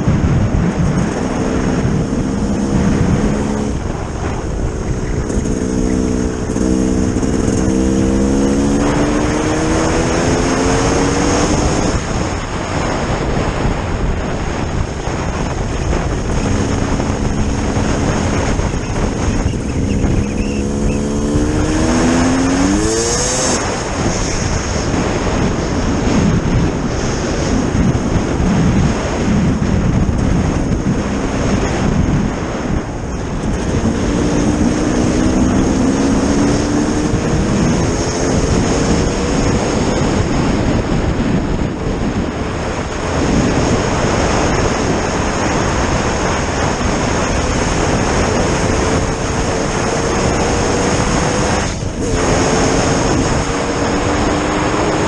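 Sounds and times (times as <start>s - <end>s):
loud rushing noise: 0.0s - 55.0s
vehicle engine running hard: 0.0s - 55.0s.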